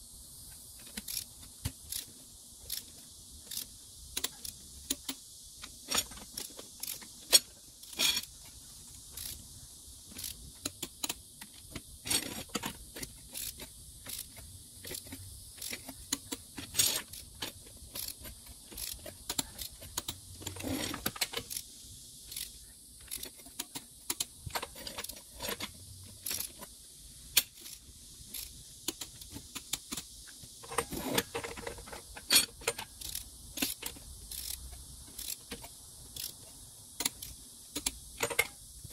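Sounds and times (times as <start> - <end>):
wrench metallic clicks: 0.8 - 9.4, 10.1 - 21.7, 22.3 - 26.7, 27.3 - 38.9
rapid ratcheting: 0.8 - 38.6.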